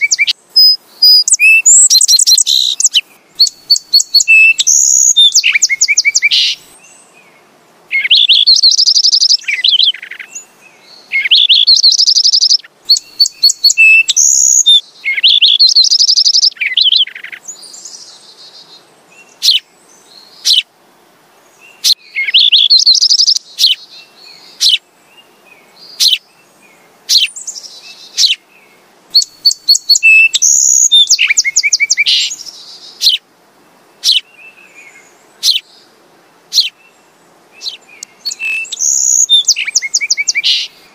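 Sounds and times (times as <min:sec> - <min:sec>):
sparrow trills and chirps: 0:00.0 - 0:07.1, 0:07.9 - 0:20.7, 0:21.7 - 0:26.3, 0:27.1 - 0:28.5, 0:29.1 - 0:33.2, 0:34.0 - 0:35.8, 0:36.5 - 0:36.9, 0:37.6 - 0:40.9.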